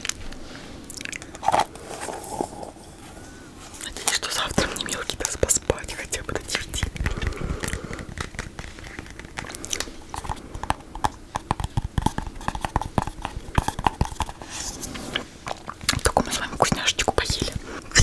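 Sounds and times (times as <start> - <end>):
chewing: 0.0 - 18.0
lip smacks: 0.8 - 2.8, 3.8 - 18.0.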